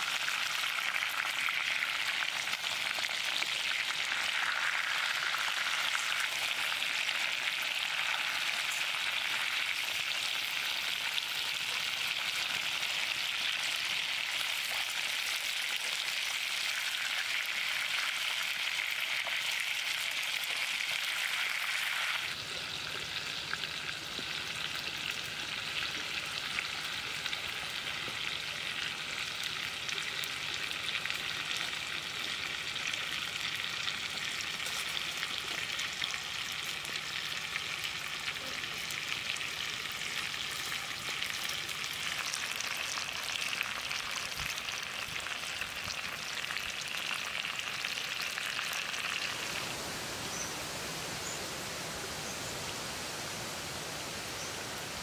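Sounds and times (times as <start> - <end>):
chicken sizzling in a pan: 0.0 - 55.0.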